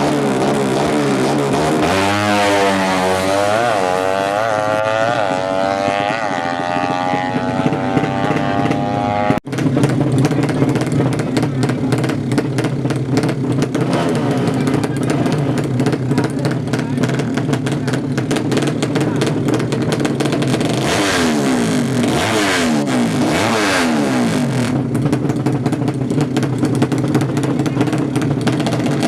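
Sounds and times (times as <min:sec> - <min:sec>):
engine accelerating hard: 0:00.0 - 0:29.0
rough crackly engine: 0:00.0 - 0:29.0.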